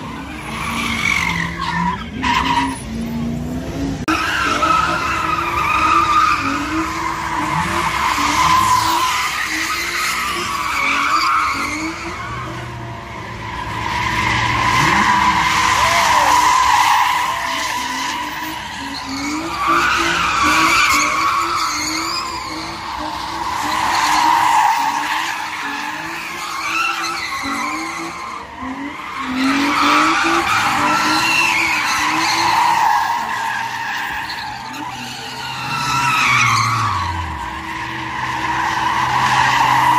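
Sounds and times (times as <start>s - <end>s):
car engine revving: 0.0s - 39.9s
car tyres screeching: 0.0s - 39.9s.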